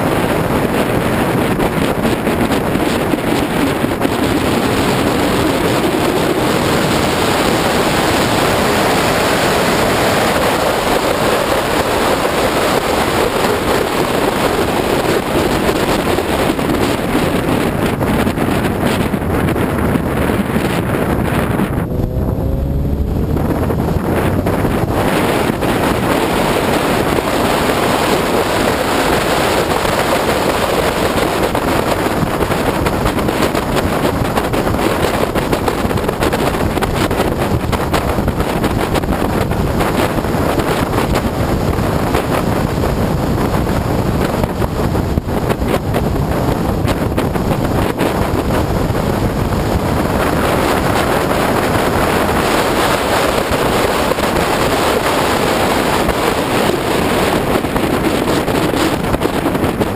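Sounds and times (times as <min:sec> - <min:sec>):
car road and engine noise: 0:00.0 - 0:59.9
wind rushing over microphone: 0:00.0 - 0:59.9.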